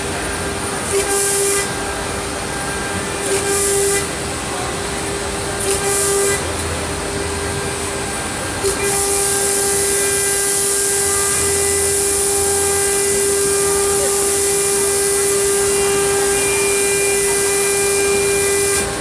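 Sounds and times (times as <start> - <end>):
router spindle whine: 0.0 - 19.0.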